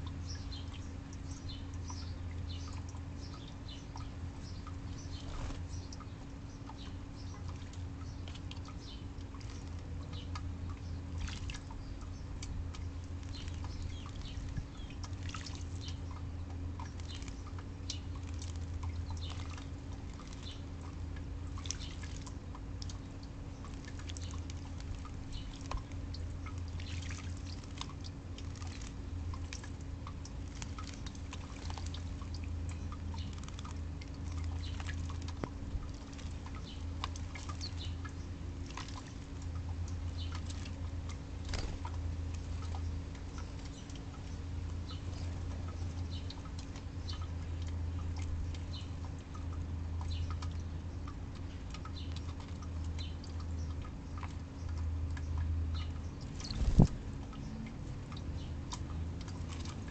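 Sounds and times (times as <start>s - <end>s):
birds splashing in bird bath: 0.0s - 59.9s
steady low hum: 0.0s - 59.9s.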